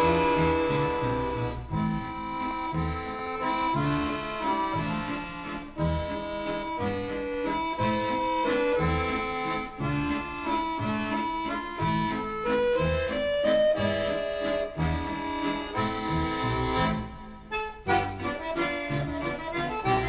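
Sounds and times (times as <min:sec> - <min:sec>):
accordion music: 0:00.0 - 0:20.0.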